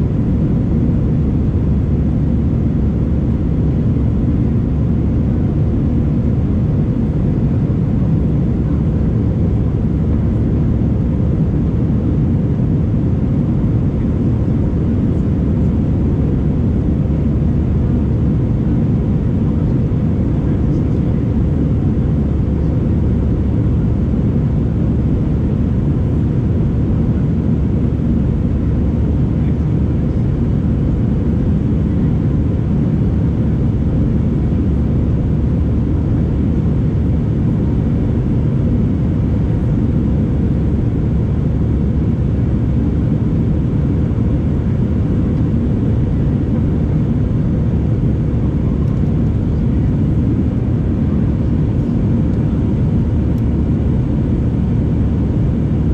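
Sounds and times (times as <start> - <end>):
jet airliner cabin drone: 0.0 - 55.9.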